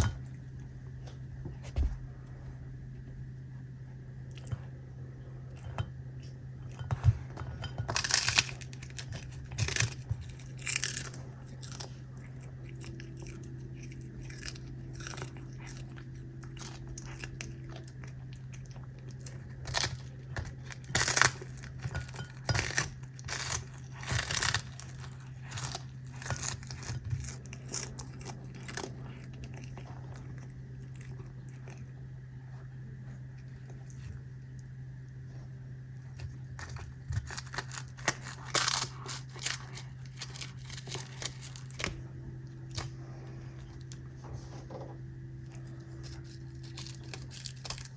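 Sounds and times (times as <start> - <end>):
cat crunching food: 0.0 - 47.9
steady low hum: 0.0 - 47.9.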